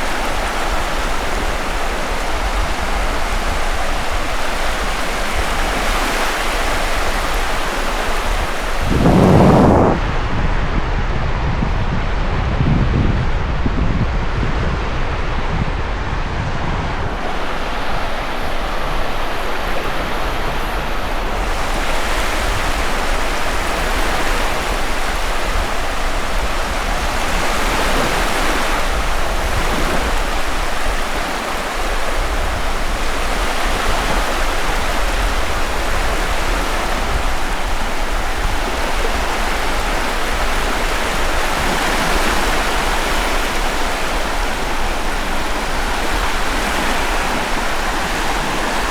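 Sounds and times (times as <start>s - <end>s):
waves washing onto beach: 0.0s - 48.9s.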